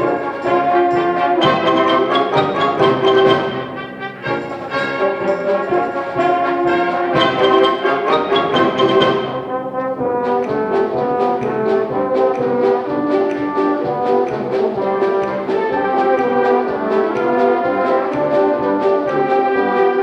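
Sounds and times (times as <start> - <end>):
brass: 0.0 - 20.0
percussion beat: 0.0 - 20.0
symphonic band playing: 0.0 - 20.0.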